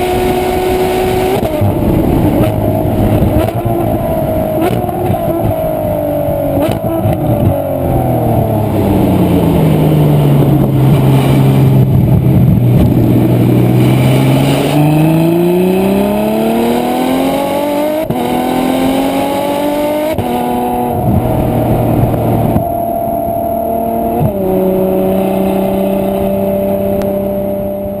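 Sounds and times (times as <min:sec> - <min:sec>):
sports car engine revving: 0:00.0 - 0:28.0.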